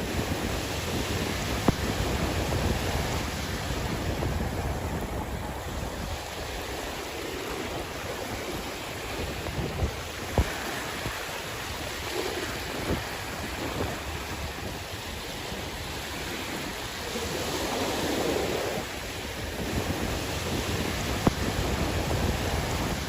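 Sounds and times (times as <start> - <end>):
sea waves washing ashore: 0.0 - 23.0
wind buffeting microphone: 0.0 - 23.0.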